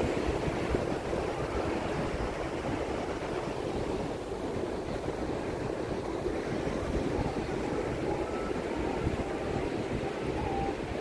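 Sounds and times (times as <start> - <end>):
surf on a sandy beach: 0.0 - 11.0
wind rumble on microphone: 0.0 - 11.0.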